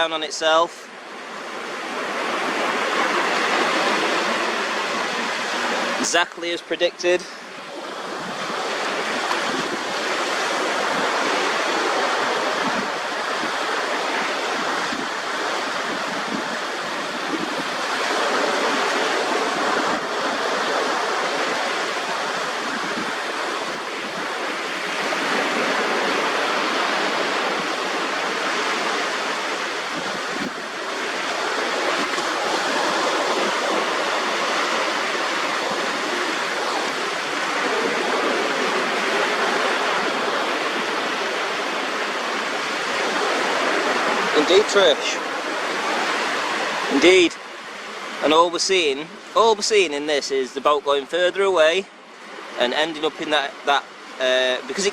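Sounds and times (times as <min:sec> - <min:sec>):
waves washing onto sandy shore: 0:00.0 - 0:54.9.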